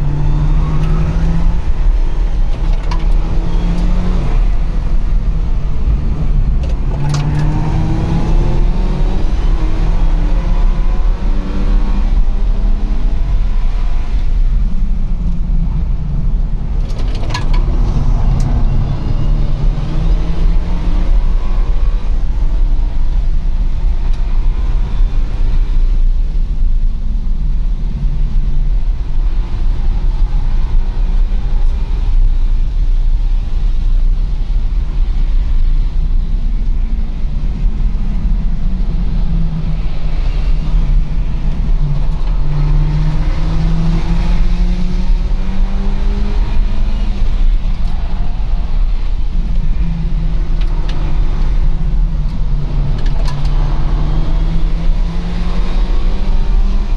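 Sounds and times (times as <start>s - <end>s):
car engine revving: 0.0s - 32.8s, 33.4s - 56.9s
tyre and wind rumble: 0.0s - 56.9s.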